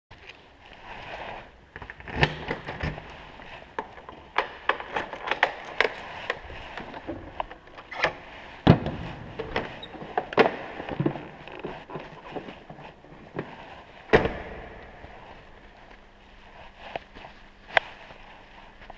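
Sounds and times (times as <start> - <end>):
rustling: 0.1 - 18.9.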